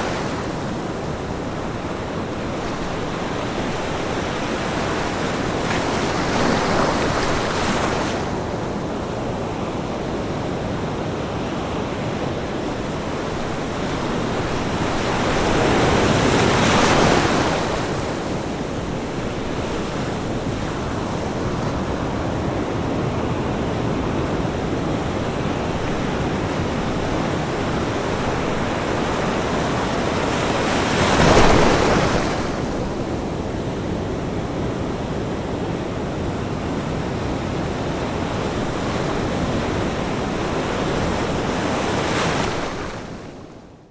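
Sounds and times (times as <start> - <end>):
surf washing on beach: 0.0 - 43.7.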